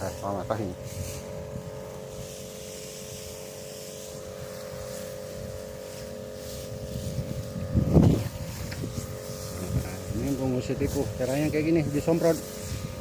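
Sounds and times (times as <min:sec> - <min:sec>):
crop sprayer engine running: 0:00.0 - 0:13.0.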